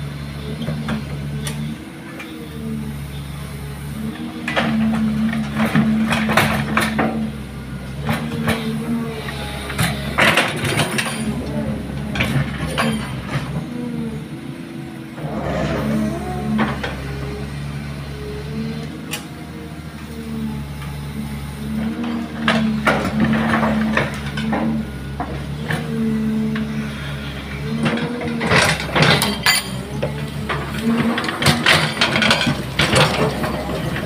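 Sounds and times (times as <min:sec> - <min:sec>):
diesel engine humming: 0:00.0 - 0:34.0
hydraulic whine: 0:00.0 - 0:34.0.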